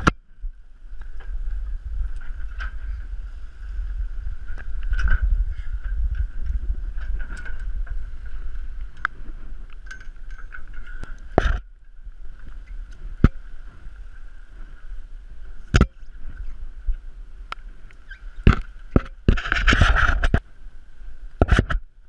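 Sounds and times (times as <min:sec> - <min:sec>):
low rumble: 0:00.0 - 0:19.4
wind buffeting camera: 0:00.0 - 0:22.0.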